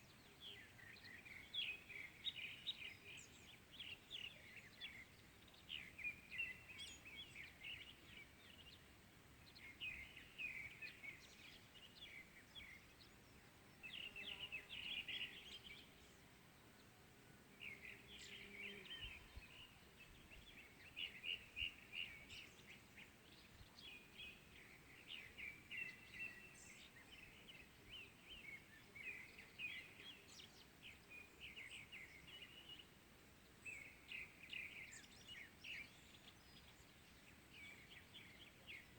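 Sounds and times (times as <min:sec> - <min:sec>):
small birds chirping: 0:00.0 - 0:16.9, 0:17.5 - 0:38.9.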